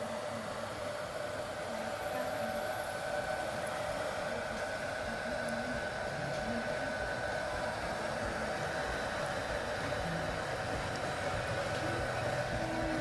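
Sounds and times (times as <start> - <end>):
humidifier whirring and humming: 0.0 - 13.0.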